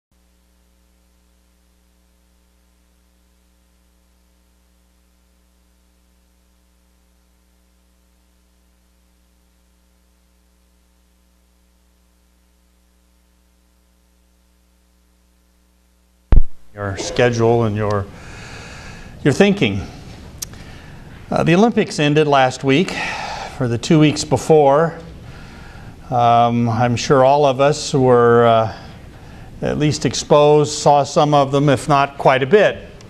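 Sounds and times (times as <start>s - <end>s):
faint mains hum: 0.1s - 33.0s
soft hiss: 0.2s - 33.0s.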